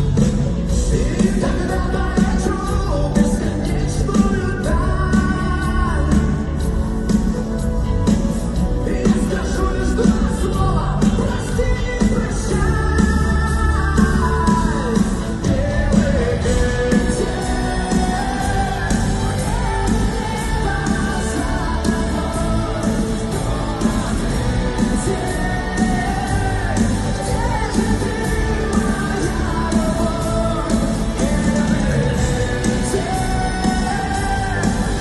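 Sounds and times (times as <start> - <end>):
live rock-pop band: 0.0 - 35.0
man singing: 0.0 - 35.0.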